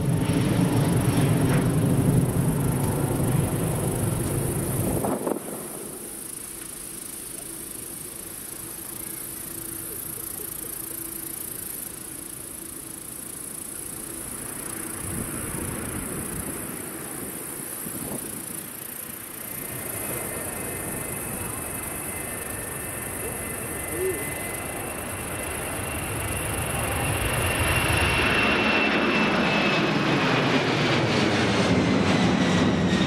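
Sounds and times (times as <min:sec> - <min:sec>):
jet engines idling: 0:00.0 - 0:33.0.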